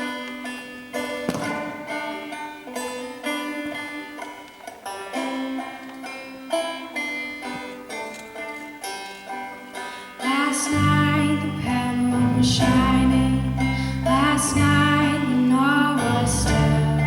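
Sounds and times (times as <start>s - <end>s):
plucked string instruments: 0.0s - 17.0s.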